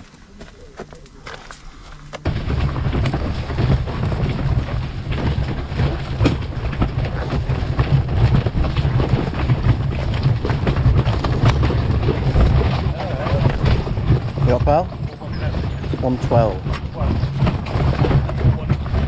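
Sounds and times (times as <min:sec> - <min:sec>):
trolley wheels rolling over gravel: 0:00.0 - 0:19.0
clicks and rattles: 0:00.9 - 0:19.0.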